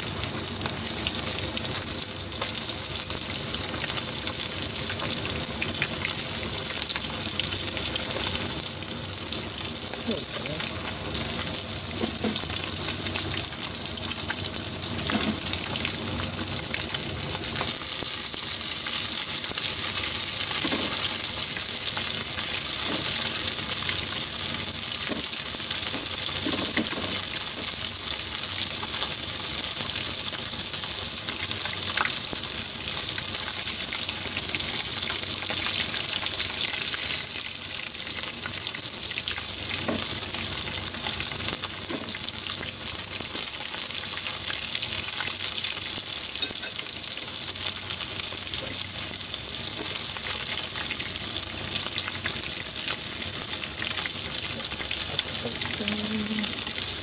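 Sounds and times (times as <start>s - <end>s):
fish deep-frying in hot oil: 0.0s - 57.0s.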